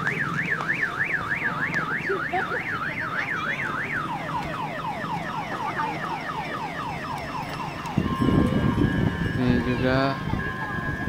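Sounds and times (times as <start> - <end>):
electronic siren alarm warbling: 0.0 - 11.0.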